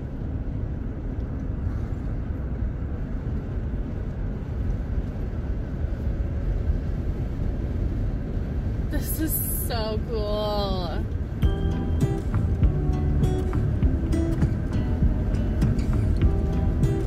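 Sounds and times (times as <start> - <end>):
road and engine rumble inside vehicle: 0.0 - 17.0.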